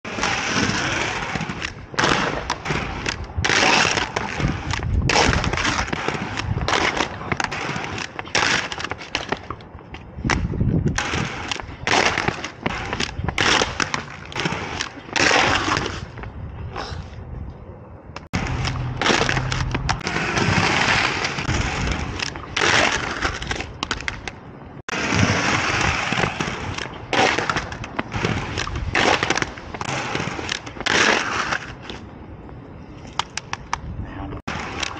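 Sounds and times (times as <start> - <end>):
skate wheels rolling on pavement: 0.0 - 34.9
skates scraping on concrete ledge: 0.1 - 17.2, 18.3 - 32.1, 34.5 - 34.9.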